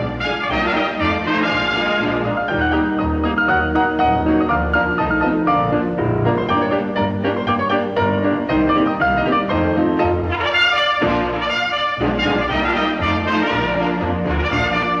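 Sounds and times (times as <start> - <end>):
lively orchestral music: 0.0 - 15.0.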